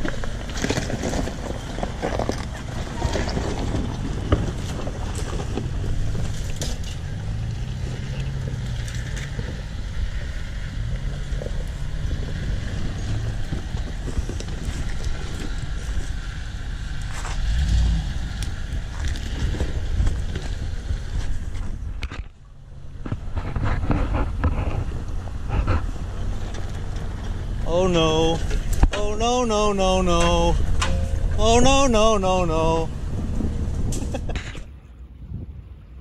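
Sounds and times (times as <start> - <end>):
tires crunching over rocks: 0.0 - 36.0
truck engines running slowly: 0.0 - 36.0.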